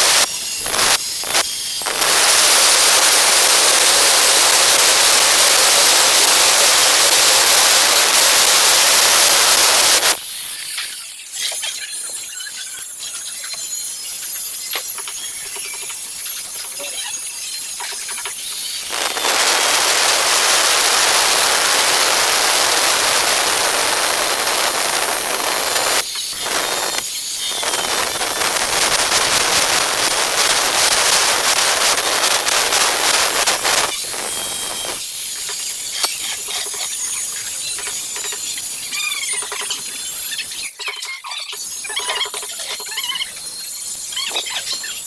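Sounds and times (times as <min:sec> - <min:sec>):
angle grinder cutting tile: 0:00.0 - 0:13.9, 0:14.7 - 0:40.0.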